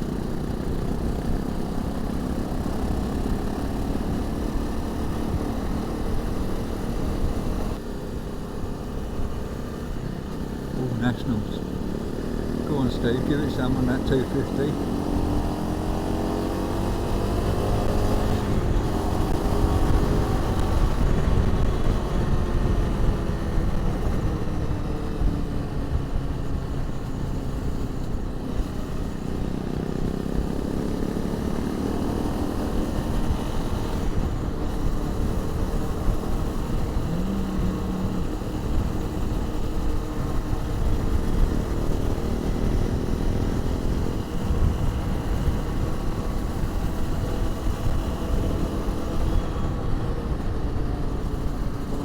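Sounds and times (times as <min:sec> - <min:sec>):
motorcycle engine revving: 0:00.0 - 0:52.0
wind and road noise: 0:00.0 - 0:52.0.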